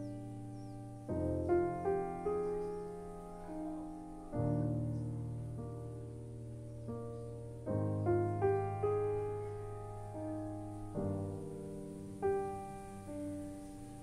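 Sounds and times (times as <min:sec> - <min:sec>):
soft piano-like keyboard chords: 0:00.0 - 0:14.0.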